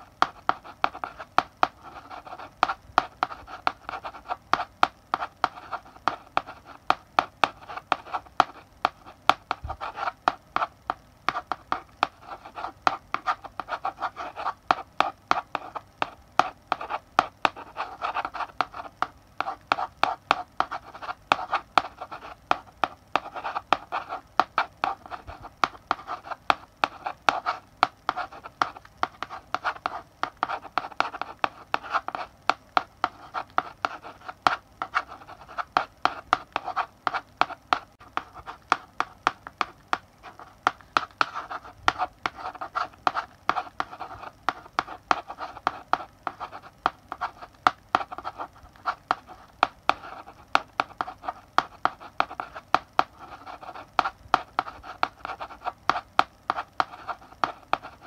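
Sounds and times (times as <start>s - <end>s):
chalk tapping and scratching on blackboard: 0.0s - 58.0s.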